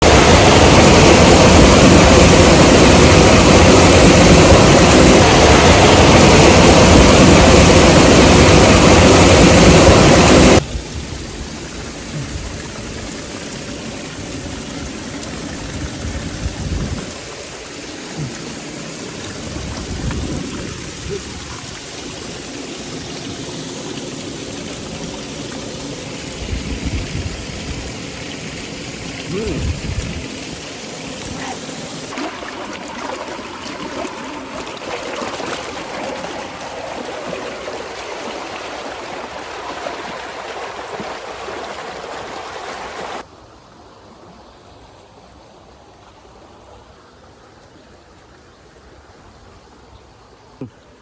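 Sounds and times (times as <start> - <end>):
waterfall roaring: 0.0 - 43.2.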